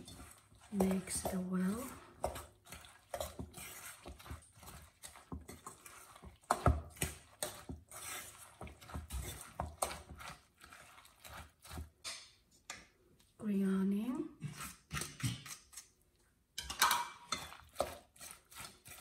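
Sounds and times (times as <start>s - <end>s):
metal spoon scraping bowl: 0.0s - 12.3s, 14.4s - 15.9s, 16.6s - 19.0s.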